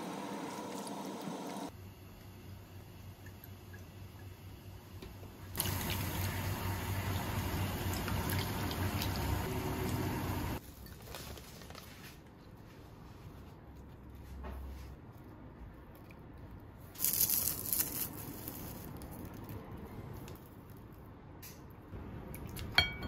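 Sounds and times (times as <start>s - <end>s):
rushing kitchen noise with hum: 0.0s - 23.0s.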